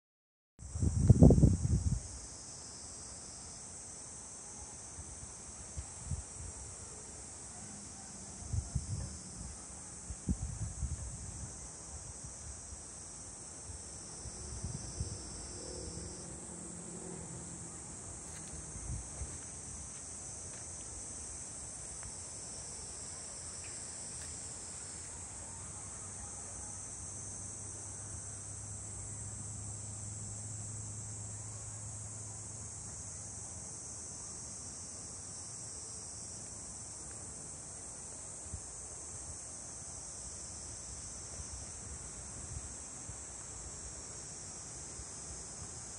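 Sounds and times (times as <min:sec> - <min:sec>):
insect chorus drone: 0:00.6 - 0:45.9.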